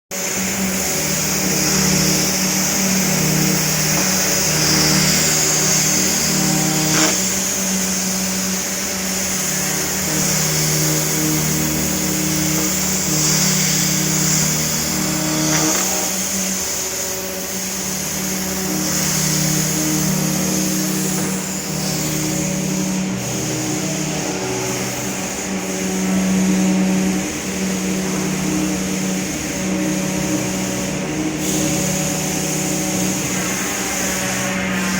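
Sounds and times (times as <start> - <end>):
router machining plastic: 0.2 - 34.9.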